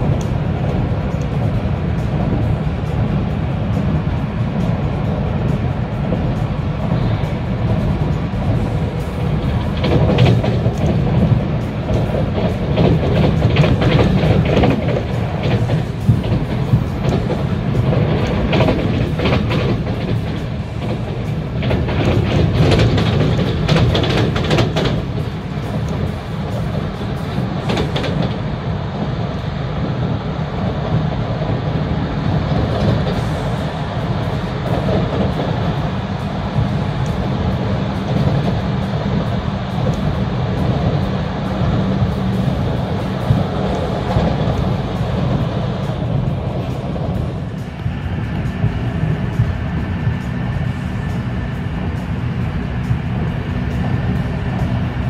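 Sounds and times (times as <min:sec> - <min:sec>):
clatter over rail joints: 0:00.0 - 0:55.0
train wheels rumbling on track: 0:00.0 - 0:55.0.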